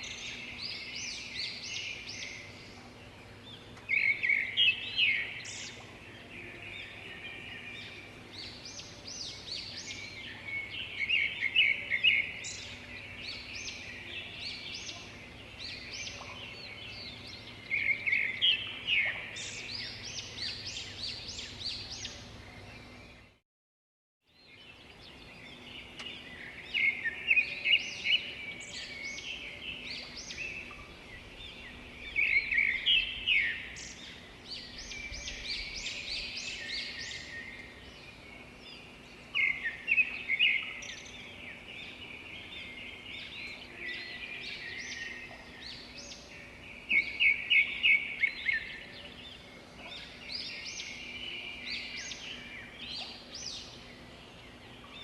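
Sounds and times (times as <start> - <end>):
birds chirping and calling: 0.0 - 23.2, 24.6 - 55.0.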